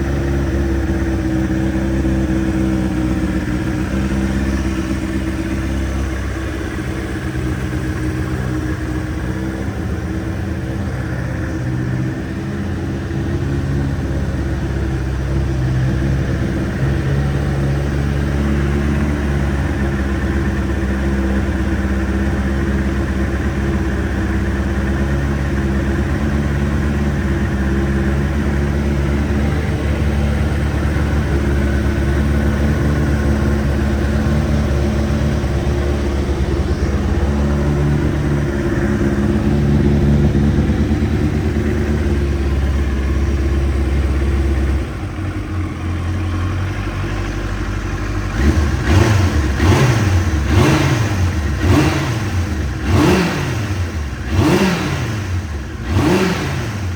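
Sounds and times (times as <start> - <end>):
motorcycle engine idling: 0.0 - 56.9
motorcycle engine throttle blips: 0.0 - 56.9.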